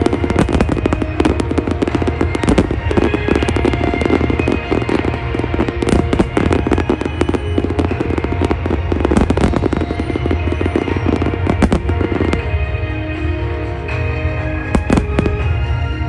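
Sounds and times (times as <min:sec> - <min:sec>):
firework bursts and crackle: 0:00.0 - 0:16.0
show music: 0:00.0 - 0:16.0.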